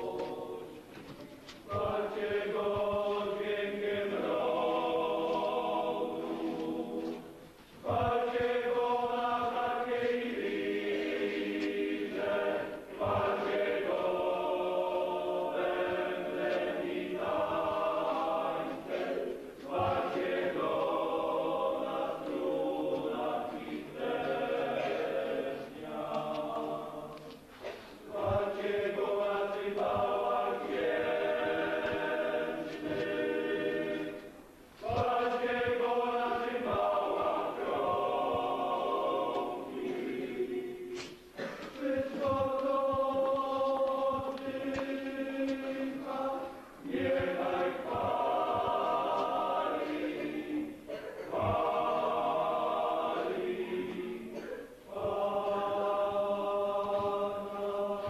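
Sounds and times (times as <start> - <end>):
choir singing a slow hymn: 0.0 - 58.0.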